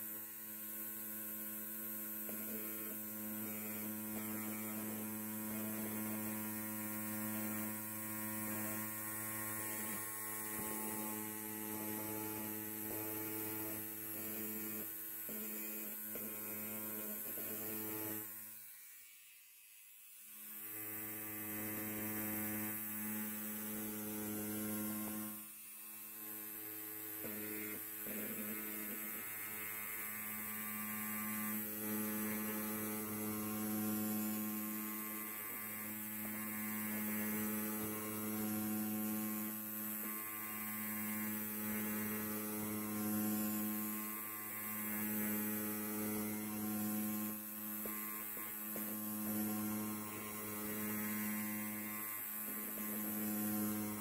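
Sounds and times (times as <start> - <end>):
electric hair clippers buzzing: 0.0 - 54.0.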